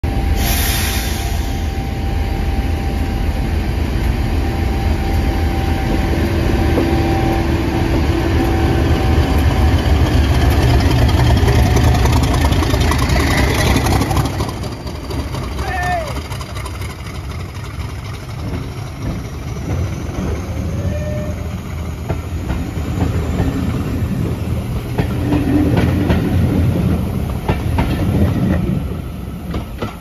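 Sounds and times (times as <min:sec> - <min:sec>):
steady whine: 0:00.0 - 0:25.1
diesel locomotive engine passing: 0:00.0 - 0:30.0.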